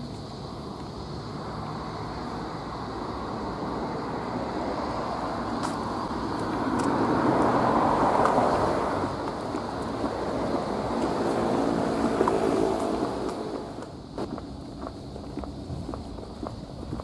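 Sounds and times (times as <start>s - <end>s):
vehicle passing on street: 0.0s - 17.0s.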